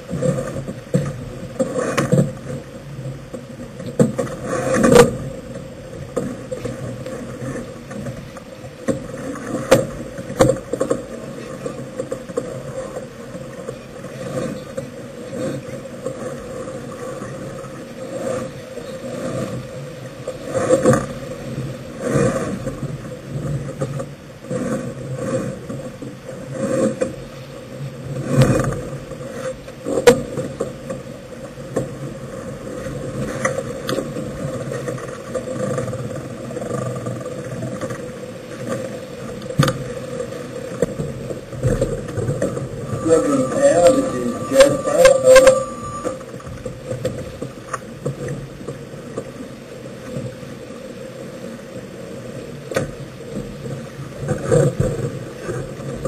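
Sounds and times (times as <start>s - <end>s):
water rushing past a yacht: 0.0s - 56.0s
wind: 0.0s - 56.0s.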